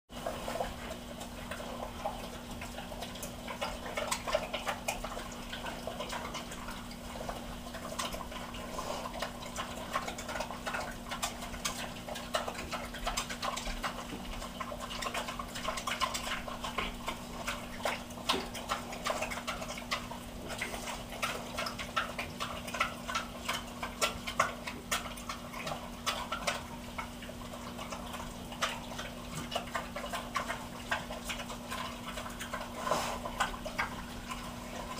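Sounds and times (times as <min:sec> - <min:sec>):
pigs crunching and chewing: 0:00.1 - 0:34.9.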